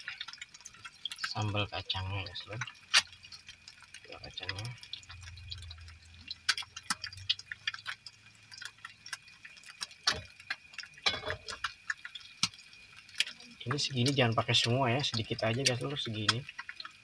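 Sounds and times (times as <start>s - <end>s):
egg frying in crackling oil: 0.0s - 17.0s.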